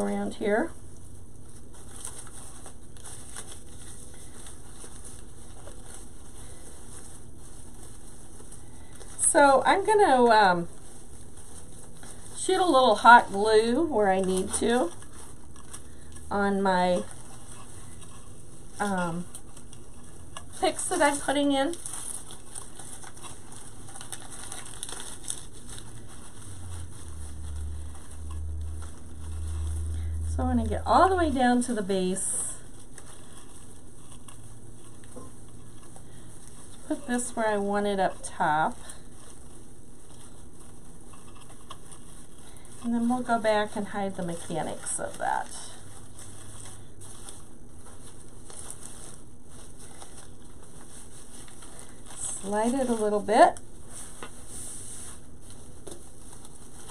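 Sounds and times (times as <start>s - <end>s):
mesh rustling and crackling: 0.0s - 56.9s.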